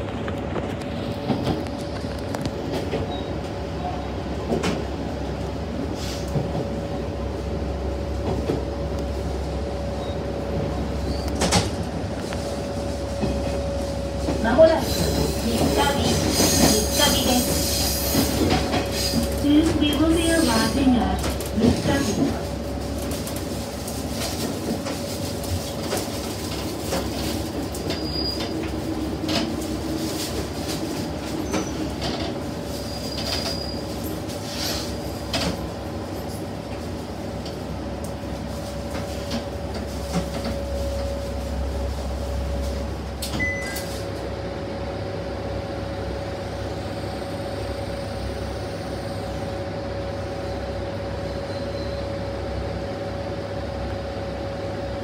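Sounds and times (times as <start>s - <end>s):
diesel engine drone with whine: 0.0s - 14.4s, 18.4s - 55.0s.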